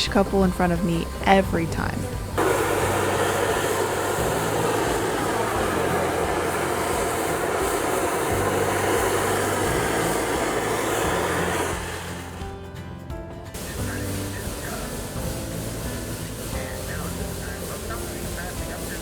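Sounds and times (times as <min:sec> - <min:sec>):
steam locomotive hiss: 0:00.0 - 0:12.6, 0:13.5 - 0:19.0.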